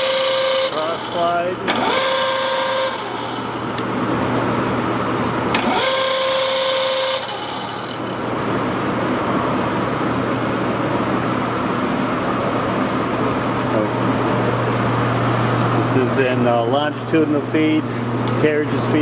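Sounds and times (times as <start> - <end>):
motor whine rising: 0.0 - 17.0
lathe humming: 0.0 - 19.0.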